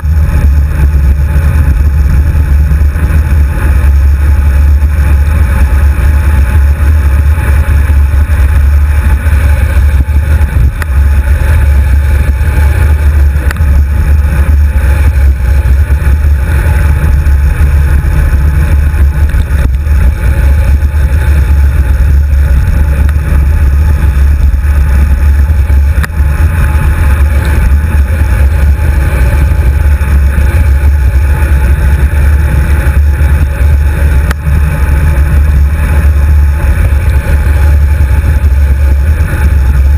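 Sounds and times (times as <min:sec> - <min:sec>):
wind buffeting camera: 0:00.0 - 0:39.9.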